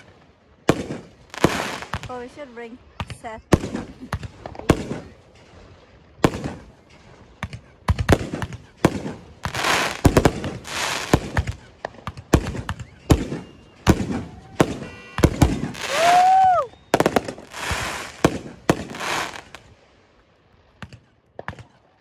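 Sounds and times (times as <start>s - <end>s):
fireworks bangs: 0.0s - 20.1s
fireworks crackling: 0.0s - 21.8s.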